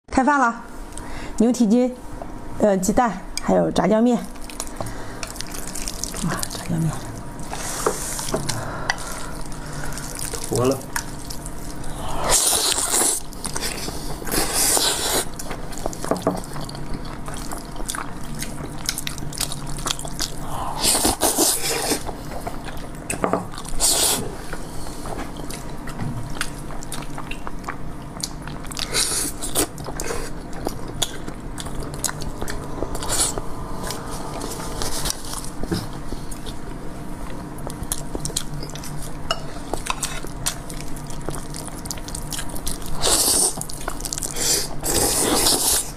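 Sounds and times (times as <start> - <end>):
chewing: 4.3 - 36.6, 37.2 - 45.9.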